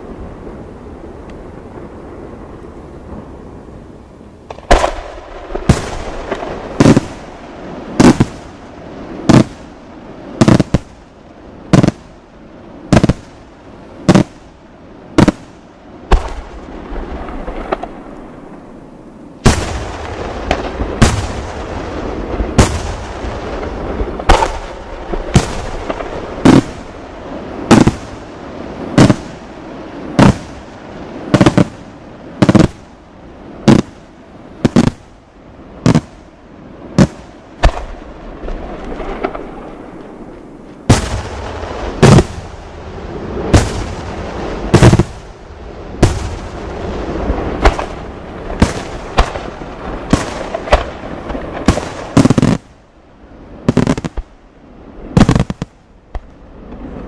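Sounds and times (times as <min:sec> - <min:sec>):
fireworks crackling and rumbling: 0:00.0 - 0:57.0.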